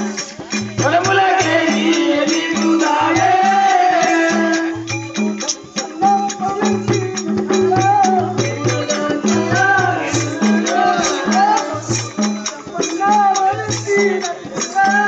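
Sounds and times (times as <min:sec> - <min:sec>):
jingling rattles or cymbals: 0:00.0 - 0:15.0.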